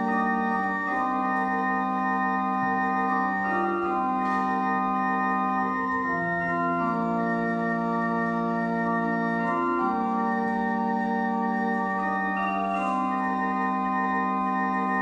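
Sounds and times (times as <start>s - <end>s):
pipe organ chords: 0.0s - 15.0s.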